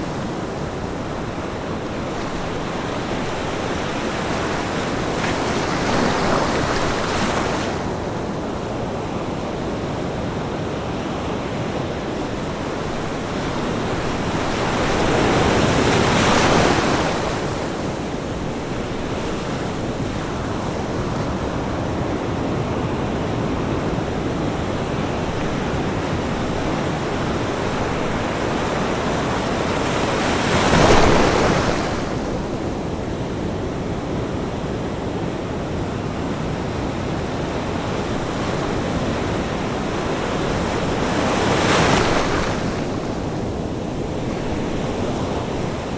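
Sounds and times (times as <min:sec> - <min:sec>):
ocean waves crashing on beach: 0:00.0 - 0:45.9.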